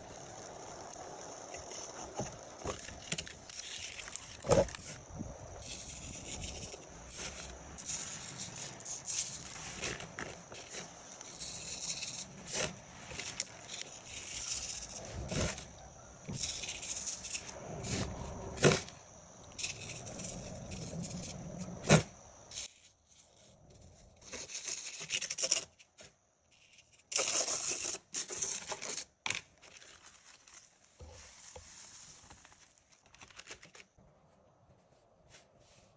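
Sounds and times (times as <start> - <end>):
sand hissing and scraping: 0.0 - 25.9, 29.8 - 32.9.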